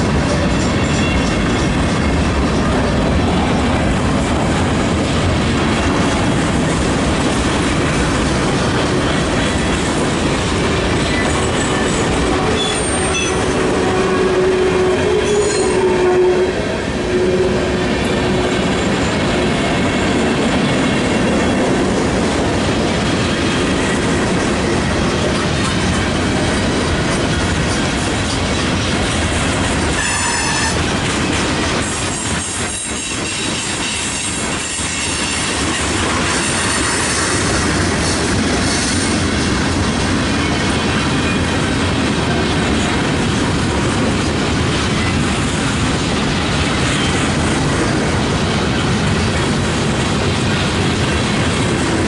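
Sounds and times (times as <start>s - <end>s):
freight cars rumbling on rails: 0.0s - 52.0s.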